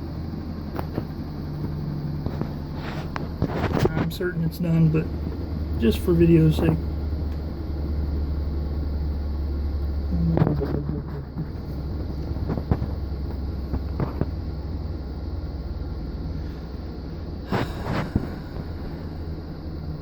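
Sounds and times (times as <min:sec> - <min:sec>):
washing machine spinning hum: 0:00.0 - 0:20.0.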